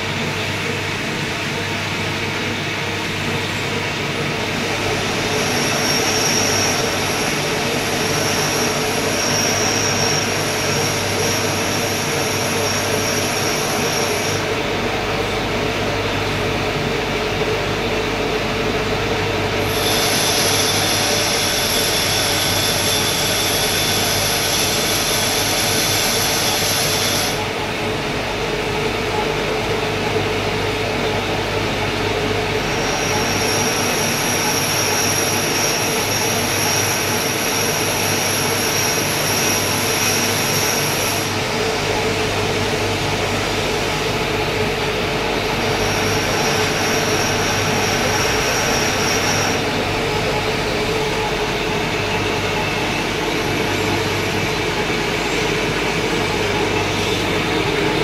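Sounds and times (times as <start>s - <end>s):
lathe humming: 4.4s - 58.0s.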